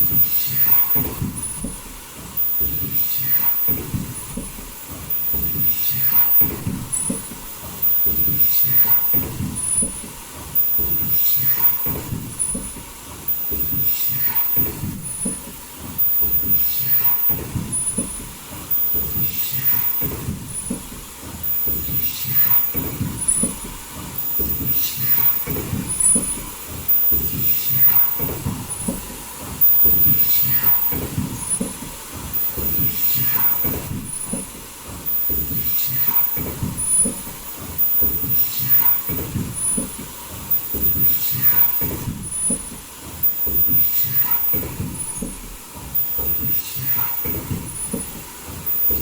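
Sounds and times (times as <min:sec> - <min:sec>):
clatter of mechanical knocks: 0:00.0 - 0:49.0
high-pitched machine whine: 0:00.0 - 0:49.0
hiss: 0:00.0 - 0:49.0.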